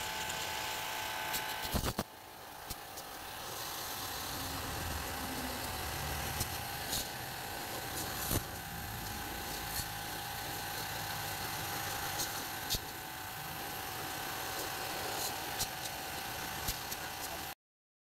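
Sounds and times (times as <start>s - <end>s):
pressure washer motor hum: 0.0s - 17.5s.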